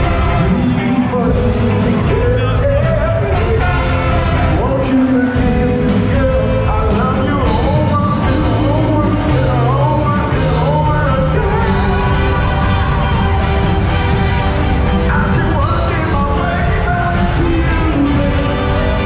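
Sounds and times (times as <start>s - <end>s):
drums: 0.0s - 19.0s
keyboards: 0.0s - 19.0s
live band with singers: 0.0s - 19.0s.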